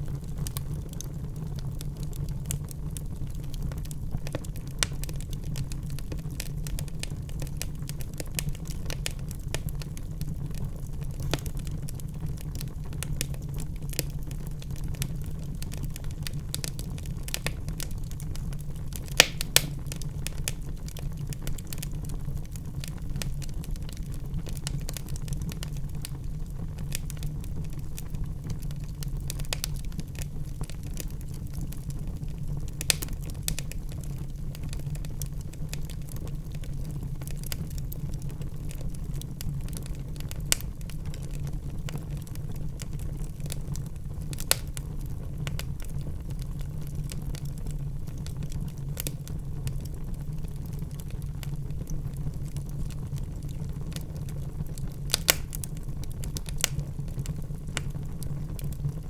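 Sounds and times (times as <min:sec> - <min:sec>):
wood fire crackling: 0:00.0 - 0:59.0
fire pops: 0:00.1 - 0:39.0, 0:39.6 - 0:47.4, 0:48.1 - 0:59.0.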